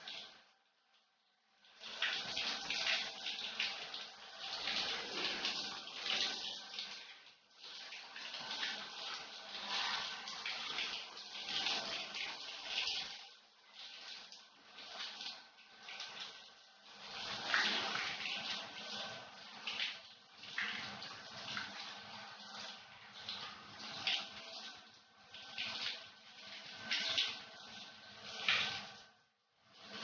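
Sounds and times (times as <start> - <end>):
shower spraying water: 0.0 - 0.4, 1.6 - 30.0.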